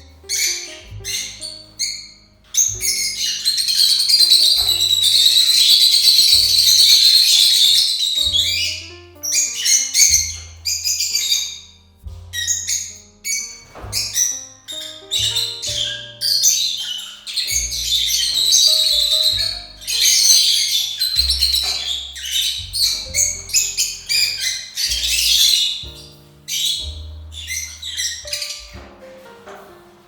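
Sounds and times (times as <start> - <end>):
lovebirds chattering and screeching: 0.0 - 11.6, 12.4 - 28.8
background music with bass line: 0.0 - 30.0.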